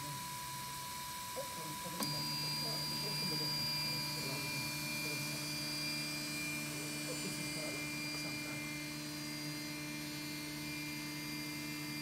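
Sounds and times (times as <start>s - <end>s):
printer fans humming: 0.0s - 12.0s.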